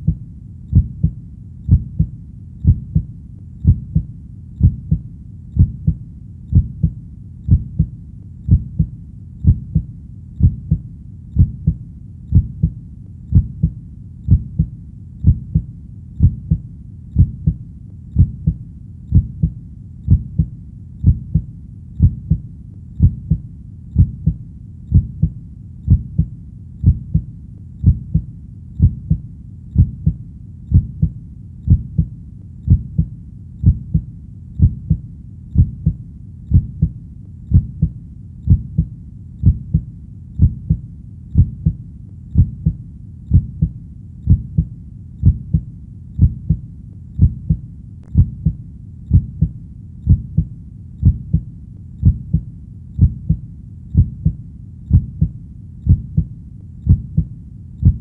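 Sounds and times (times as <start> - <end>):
heartbeat thumps: 0.0 - 58.0
low steady rumble: 0.0 - 58.0.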